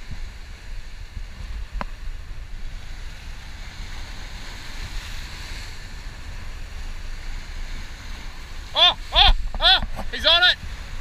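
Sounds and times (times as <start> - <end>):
surf washing across rocks: 0.0 - 11.0
wind buffeting microphone: 0.0 - 11.0.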